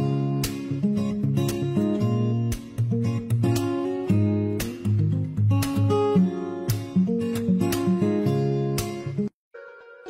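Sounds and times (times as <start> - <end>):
strummed guitar chords: 0.0 - 10.0.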